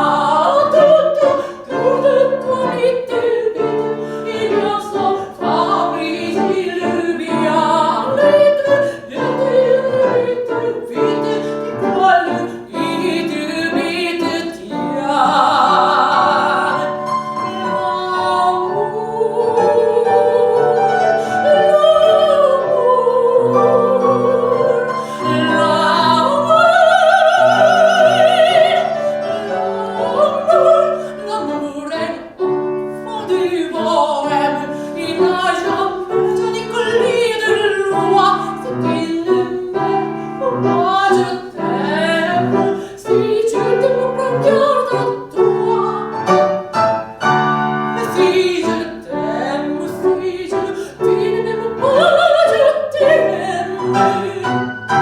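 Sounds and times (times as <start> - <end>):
piano accompaniment: 0.0 - 55.0
soprano singing opera: 0.0 - 55.0.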